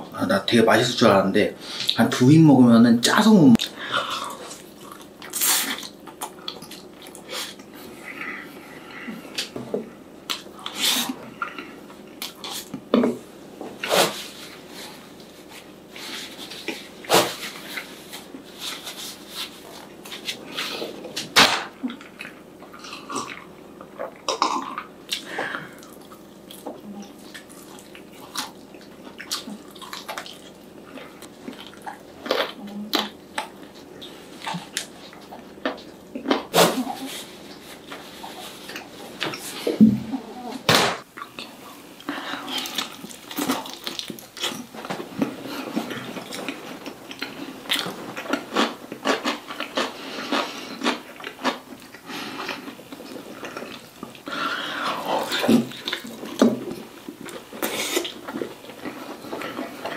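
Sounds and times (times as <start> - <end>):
person chewing food: 3.6 - 13.1, 13.7 - 39.8, 41.0 - 59.9.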